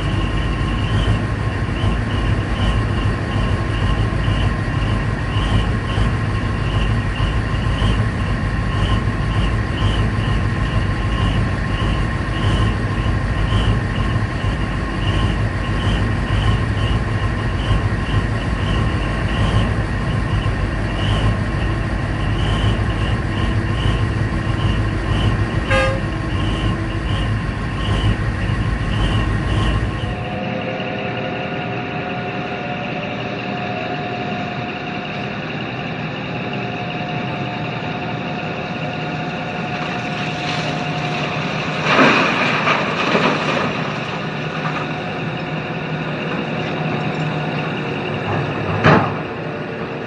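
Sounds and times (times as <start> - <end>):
high pulsing tone: 0.0 - 41.7
diesel engines droning: 0.0 - 50.0.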